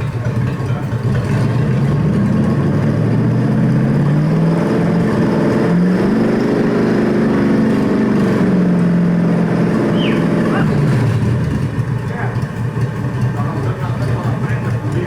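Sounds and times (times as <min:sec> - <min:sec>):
engine starting and running: 0:00.0 - 0:15.0.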